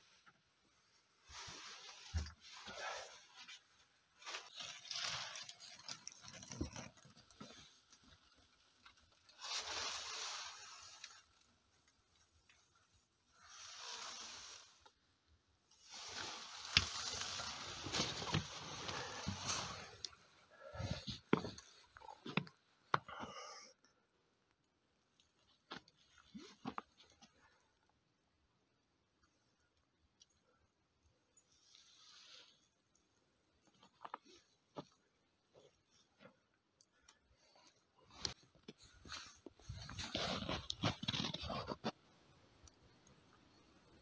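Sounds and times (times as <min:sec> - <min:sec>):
rustling and scraping materials: 0:00.0 - 0:23.0, 0:31.3 - 0:44.0.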